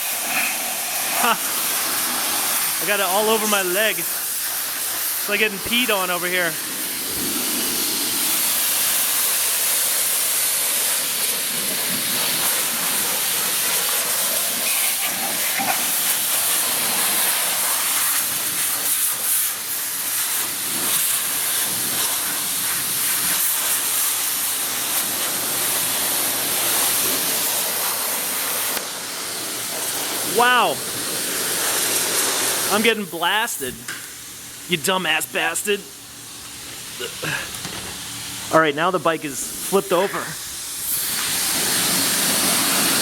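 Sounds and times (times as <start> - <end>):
high-pressure water spray: 0.0 - 33.8, 36.5 - 43.0.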